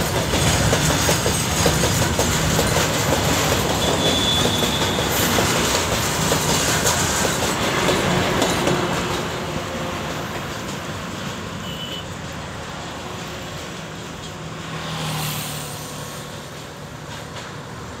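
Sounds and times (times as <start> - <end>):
freight train wagons clattering: 0.0 - 14.6, 16.3 - 18.0.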